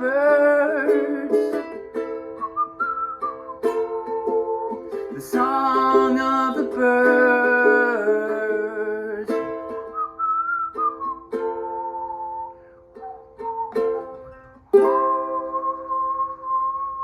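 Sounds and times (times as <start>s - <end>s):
person whistling a melody: 0.0s - 17.0s
strummed stringed instrument: 0.0s - 17.0s.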